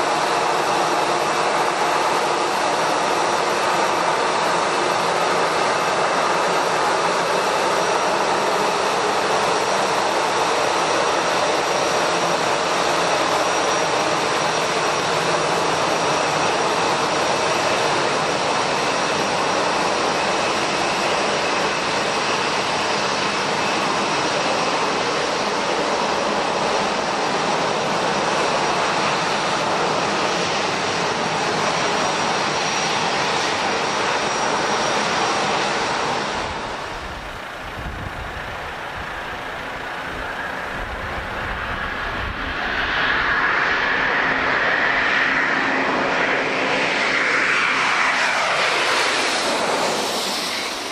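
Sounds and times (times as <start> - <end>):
jet engines running: 0.0 - 50.9.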